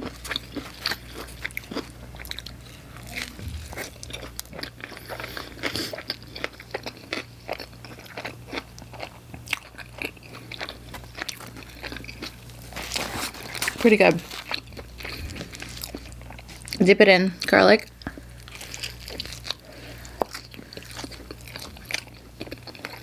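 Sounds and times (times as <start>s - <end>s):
biting and chewing pizza: 0.0s - 16.8s, 17.9s - 23.0s
faint low hum: 0.0s - 23.0s.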